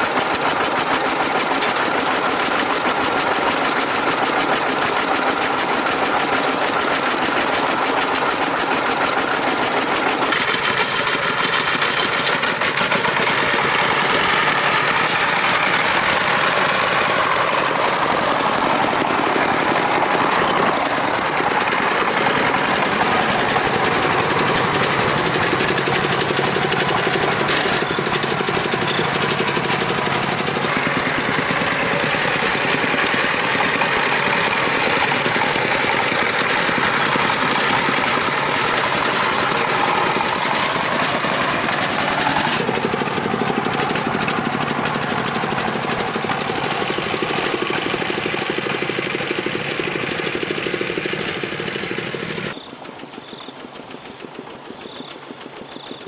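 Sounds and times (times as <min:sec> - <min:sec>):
small truck engine running: 0:00.0 - 0:56.0.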